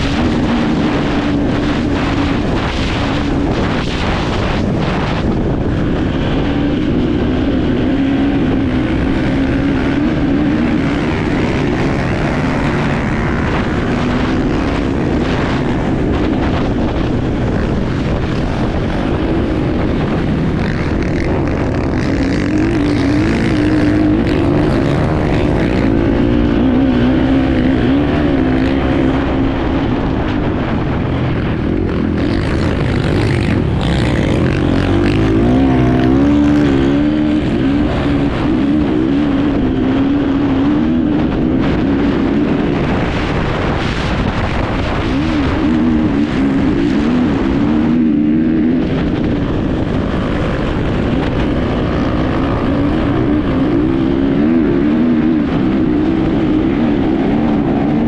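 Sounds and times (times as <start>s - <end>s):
motorcycle engine revving: 0.0s - 58.0s
steady rushing noise: 0.0s - 58.0s.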